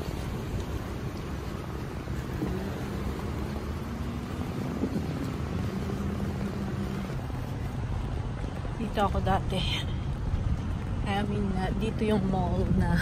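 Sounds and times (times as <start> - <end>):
traffic rumble: 0.0 - 13.0
vehicle engine humming: 0.0 - 13.0.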